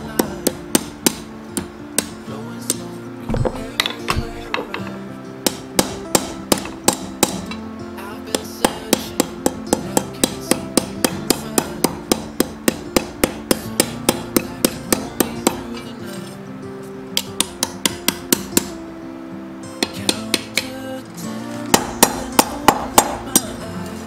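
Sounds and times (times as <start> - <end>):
hammer striking metal: 0.0 - 7.6, 8.3 - 15.9, 17.2 - 18.8, 19.8 - 20.7, 21.7 - 23.6
background music: 0.0 - 24.0.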